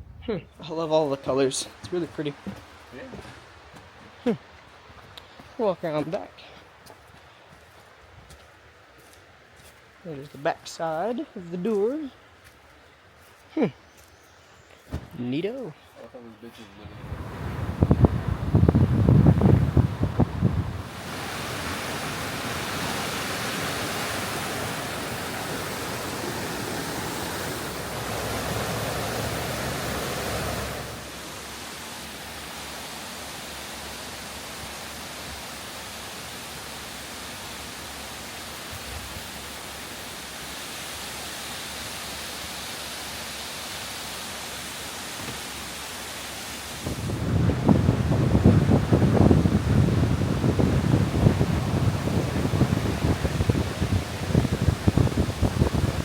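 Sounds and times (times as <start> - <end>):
rushing water hiss: 0.7 - 13.7, 14.8 - 56.0.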